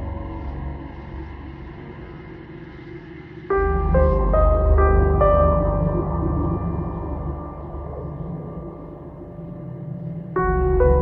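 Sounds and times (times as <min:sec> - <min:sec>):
ambient music with sustained notes: 0:00.0 - 0:11.0
low drone: 0:00.0 - 0:11.0.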